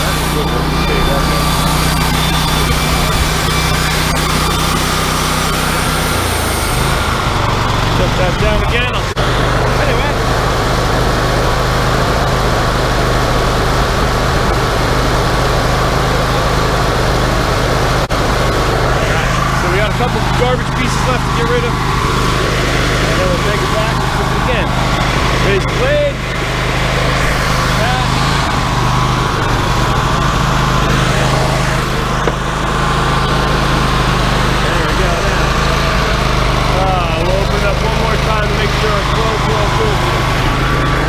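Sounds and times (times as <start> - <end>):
sawmill engine humming: 0.0 - 41.0
thin steady whine: 0.0 - 41.0.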